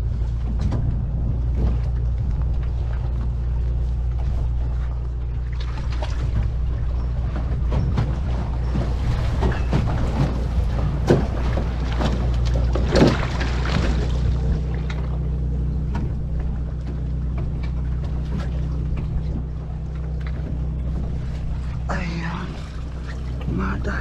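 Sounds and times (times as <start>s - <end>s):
boat engine running: 0.0s - 24.0s
water splashes: 0.0s - 24.0s.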